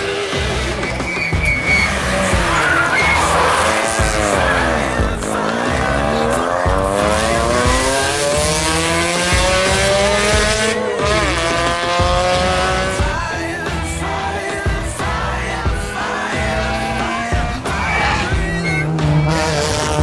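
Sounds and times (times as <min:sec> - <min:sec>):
music: 0:00.0 - 0:20.0
rally car engine accelerating: 0:00.0 - 0:20.0.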